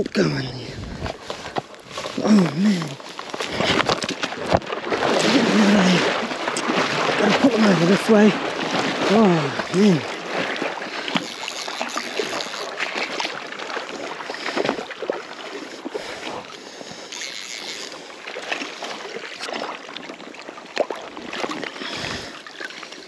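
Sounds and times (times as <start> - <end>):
river water running and sloshing: 0.0 - 23.0
water splashes: 0.0 - 23.0.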